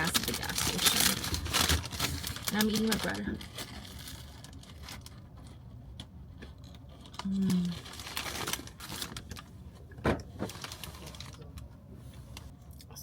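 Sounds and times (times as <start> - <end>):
bread bag crinkling: 0.0 - 9.5, 10.3 - 11.7.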